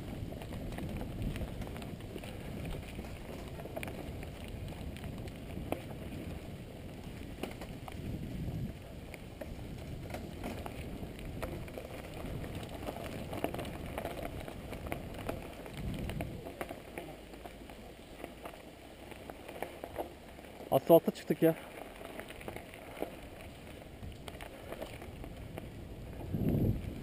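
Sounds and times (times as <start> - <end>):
bike clicks and rattles: 0.0 - 27.0
bike tyres rolling on dirt: 0.0 - 27.0
leaves and grit crackling: 0.0 - 27.0.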